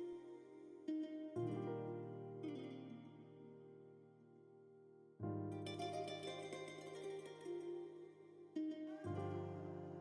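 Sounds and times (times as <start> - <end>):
soft plucked-string music: 0.0 - 4.6, 5.2 - 10.0.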